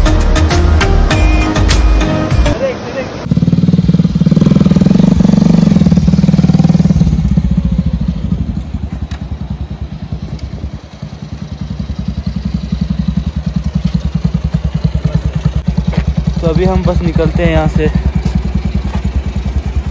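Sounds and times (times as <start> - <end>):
motorcycle engine pulsing: 3.2 - 19.9.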